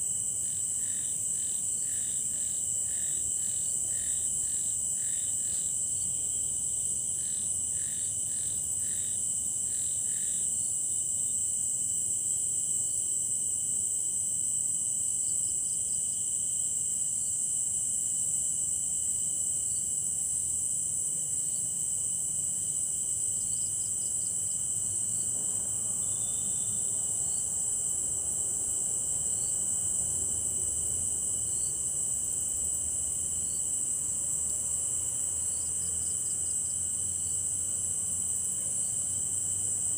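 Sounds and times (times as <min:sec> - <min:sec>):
low steady insect tone: 0:00.0 - 0:39.9
insects trilling: 0:00.1 - 0:12.0, 0:14.7 - 0:39.9.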